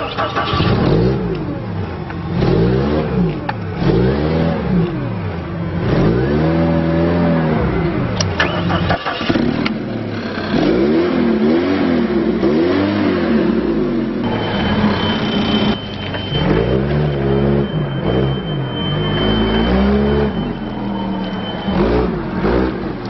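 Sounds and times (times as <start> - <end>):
forklift engine revving: 0.0 - 23.0.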